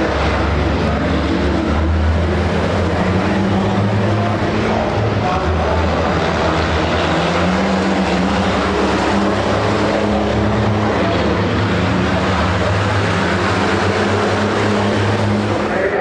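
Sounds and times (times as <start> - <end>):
truck diesel engines running hard: 0.0 - 16.0.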